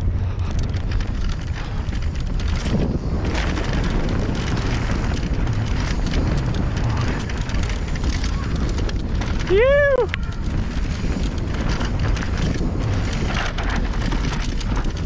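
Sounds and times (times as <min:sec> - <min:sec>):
bike clicks and rattles: 0:00.0 - 0:15.0
tyres rumbling on dirt: 0:00.0 - 0:15.0
wind buffeting microphone: 0:00.0 - 0:15.0.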